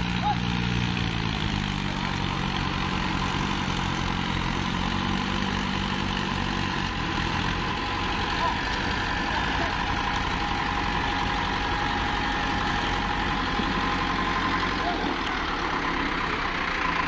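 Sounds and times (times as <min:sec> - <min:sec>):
diesel tractor engines running: 0:00.0 - 0:17.0.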